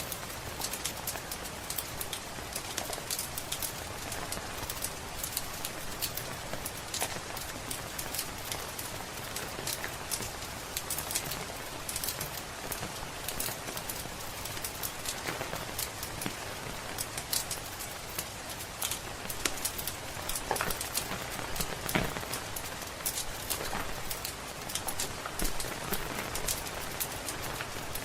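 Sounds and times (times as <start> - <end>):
steady rain hiss: 0.0 - 28.0
wood fire crackling and popping: 0.1 - 28.0.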